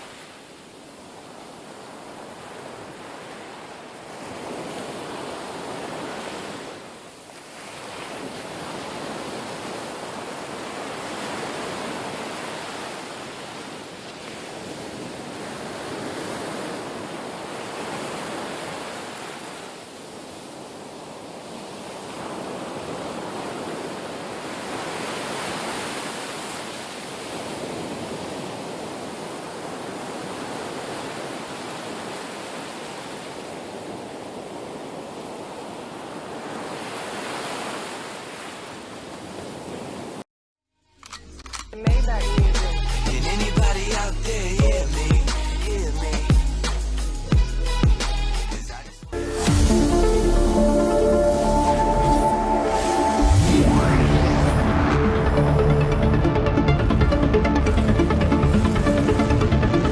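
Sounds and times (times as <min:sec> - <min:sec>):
ocean waves washing in: 0:00.0 - 0:40.2, 0:49.2 - 0:59.9.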